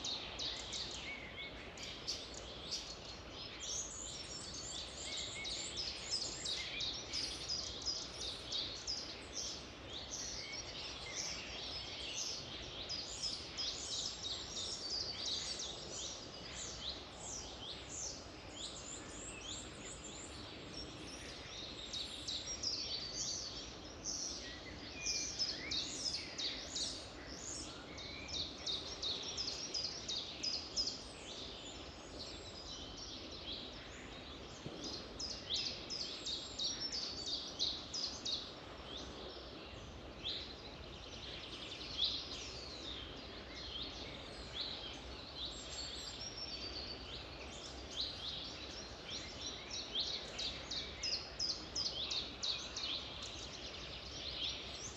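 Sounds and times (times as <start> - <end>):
songbirds singing: 0.0 - 54.9
steady background hiss: 0.0 - 54.9.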